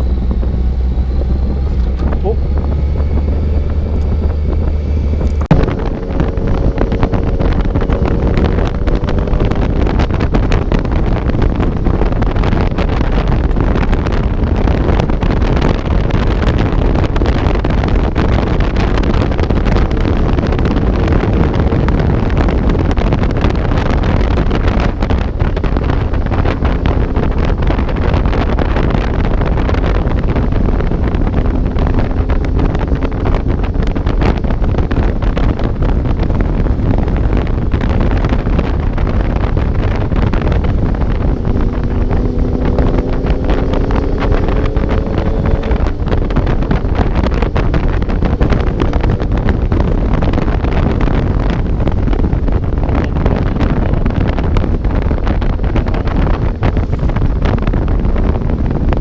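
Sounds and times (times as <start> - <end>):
faint motorcycle engine: 0.0 - 59.0
wind rush over microphone: 0.0 - 59.0.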